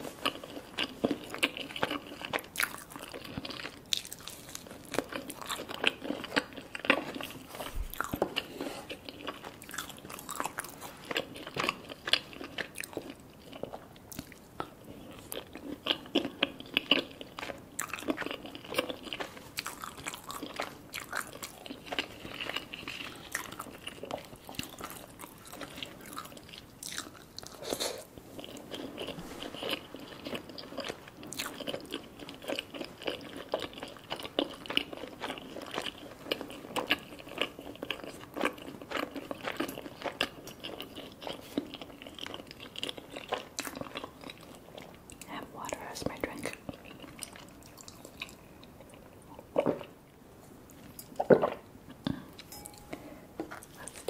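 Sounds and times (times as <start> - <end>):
wet chewing: 0.2 - 45.3, 46.4 - 49.9.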